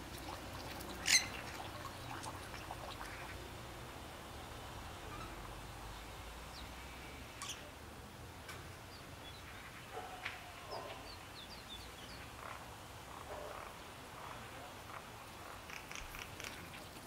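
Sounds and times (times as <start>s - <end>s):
songbirds chirping: 0.2s - 3.6s, 4.8s - 17.0s.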